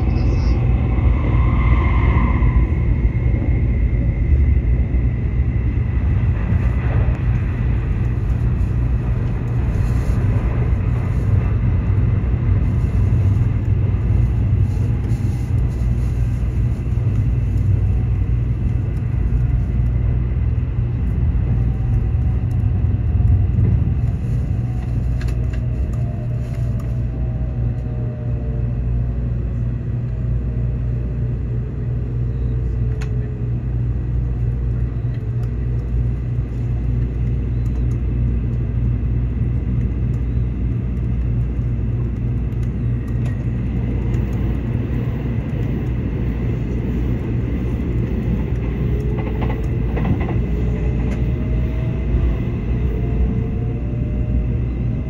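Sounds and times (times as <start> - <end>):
train cabin low rumble: 0.0 - 55.0.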